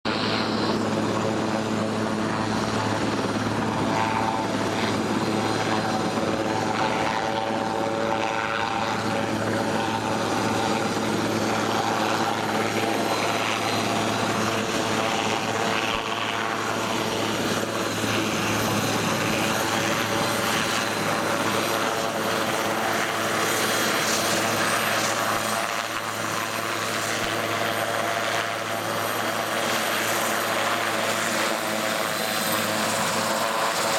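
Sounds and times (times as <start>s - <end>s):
helicopter rotor drone: 0.0s - 33.9s.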